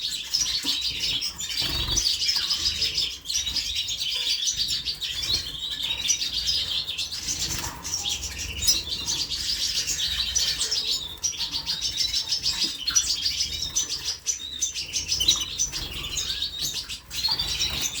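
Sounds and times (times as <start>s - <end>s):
canaries singing and chirping: 0.0s - 18.0s.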